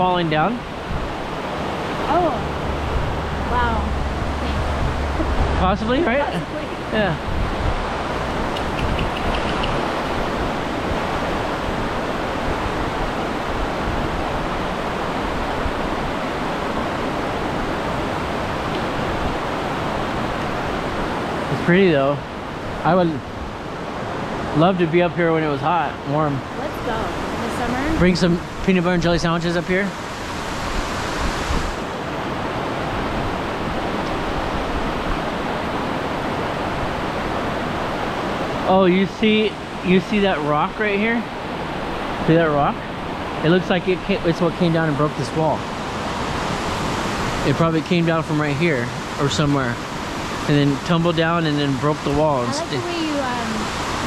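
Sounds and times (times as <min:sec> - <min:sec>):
waterfall rushing: 0:00.0 - 0:23.1, 0:23.8 - 0:54.0.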